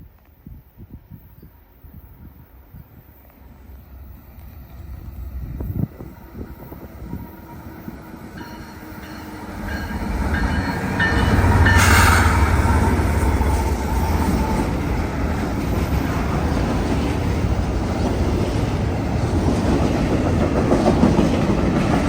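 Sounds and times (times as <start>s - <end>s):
train passing by: 0.1s - 22.0s
train cars rumbling on rails: 1.2s - 22.0s.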